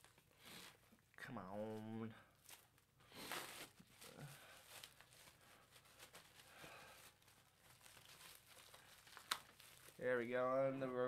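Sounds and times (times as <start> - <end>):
plastic shrink wrap crinkling: 0.0 - 10.4.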